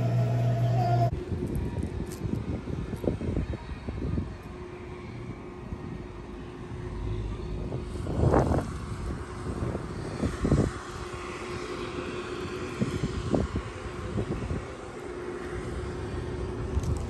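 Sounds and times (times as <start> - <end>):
outdoor rumble with low hum: 0.0 - 17.0.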